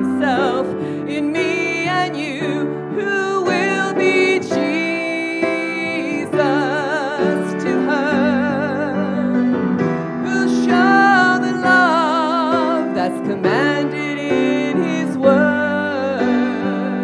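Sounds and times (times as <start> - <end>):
woman singing gospel: 0.0 - 9.5, 10.2 - 17.0
grand piano: 0.0 - 17.0.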